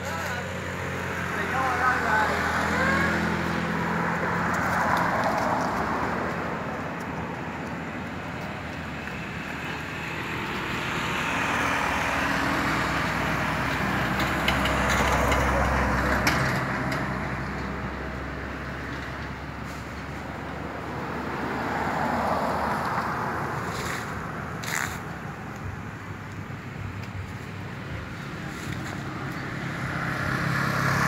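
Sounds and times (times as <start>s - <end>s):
minivan engine and tyre rumble: 0.0s - 31.0s
road traffic passing: 0.0s - 31.0s.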